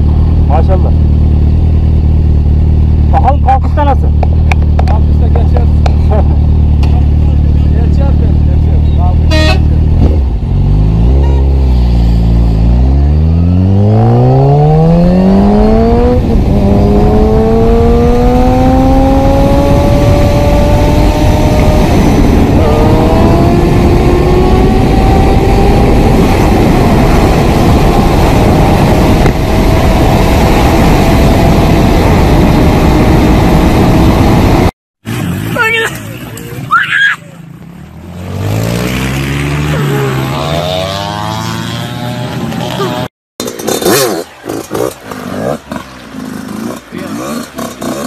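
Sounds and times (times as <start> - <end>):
motorcycle engine accelerating: 0.0 - 36.6, 37.7 - 48.0.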